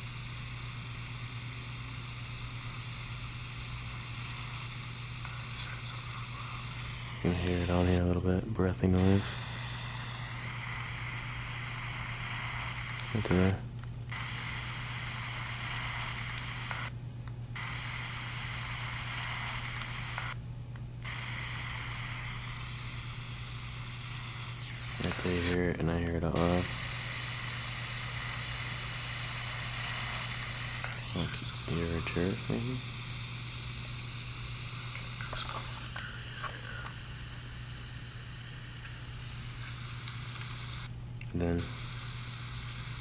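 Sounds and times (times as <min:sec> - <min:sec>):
electronic hiss: 0:00.0 - 0:16.9, 0:17.6 - 0:20.4, 0:21.0 - 0:43.0
low hum: 0:01.5 - 0:40.8.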